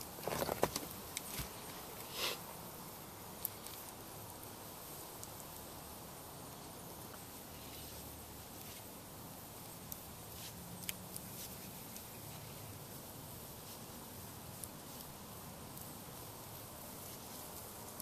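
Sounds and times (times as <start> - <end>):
faint steady outdoor hiss: 0.0 - 18.0.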